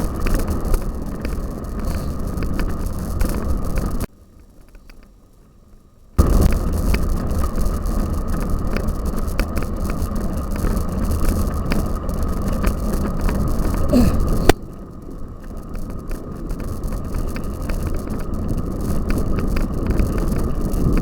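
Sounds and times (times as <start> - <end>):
bike rattling: 0.0 - 21.0
wind rumble on camera: 0.0 - 21.0.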